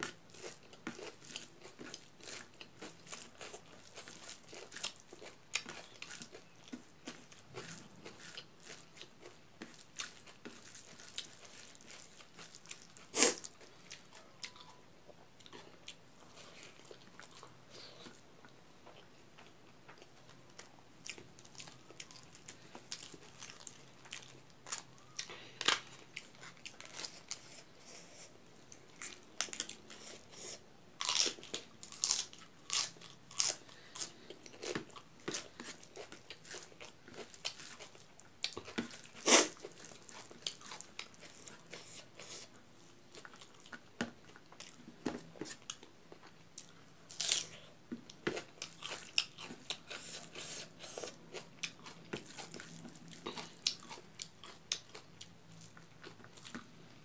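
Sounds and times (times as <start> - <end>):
crunchy chewing: 0.0 - 14.8, 15.4 - 56.9.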